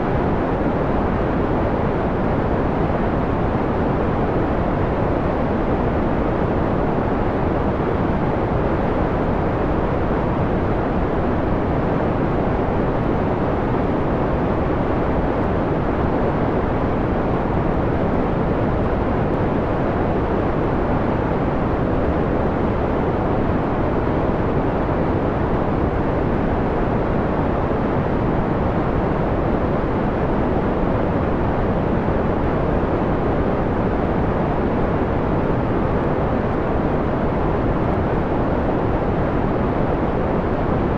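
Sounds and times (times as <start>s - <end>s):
dark filtered white noise: 0.0s - 40.9s.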